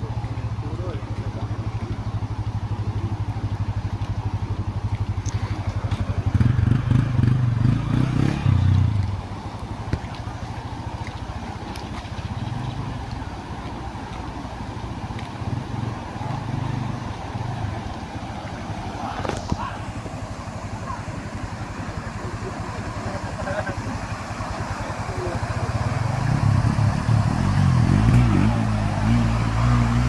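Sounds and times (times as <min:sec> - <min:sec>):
vehicle engine pulsing: 0:00.0 - 0:30.0.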